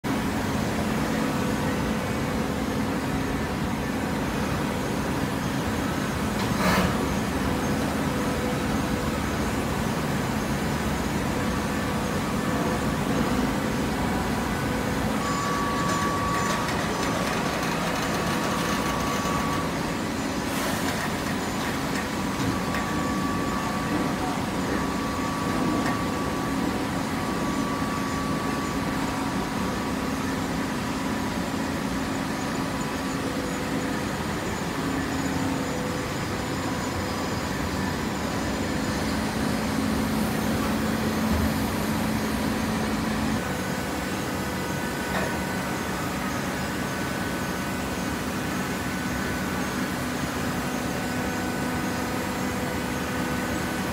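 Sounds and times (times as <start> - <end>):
baler machine hum: 0.1 - 53.9
hydraulic whine: 6.1 - 53.9.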